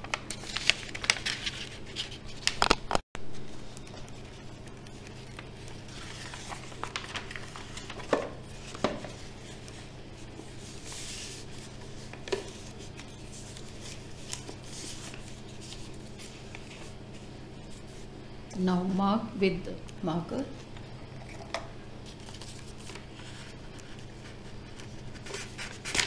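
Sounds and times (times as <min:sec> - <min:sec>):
paper rustling: 0:00.0 - 0:18.1, 0:22.0 - 0:26.0
steady low hum: 0:00.0 - 0:26.0.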